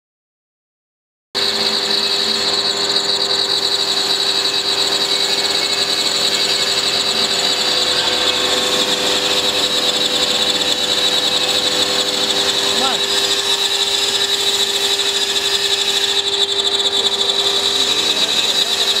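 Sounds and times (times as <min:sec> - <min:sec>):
cutter grinding stone: 0:01.4 - 0:19.0
high-pitched spindle whine: 0:01.4 - 0:19.0.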